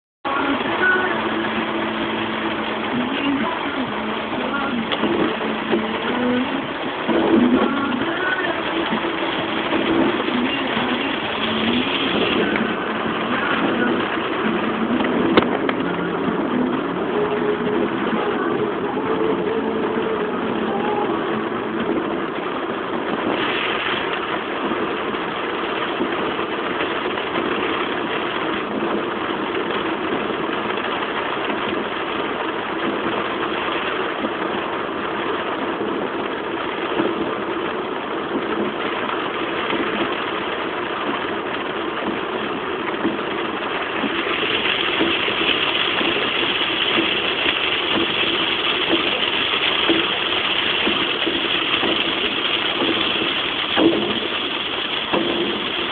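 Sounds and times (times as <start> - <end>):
car engine hum: 0.3 - 55.9
rain and wet road hiss: 0.3 - 55.9.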